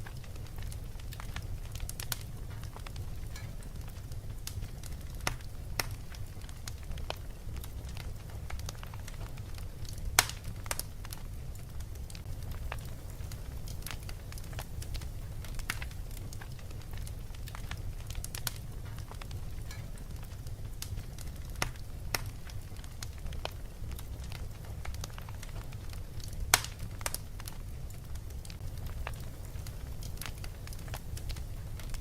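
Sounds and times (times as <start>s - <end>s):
fire crackling and popping: 0.0s - 32.0s
steady low rumble: 0.0s - 32.0s.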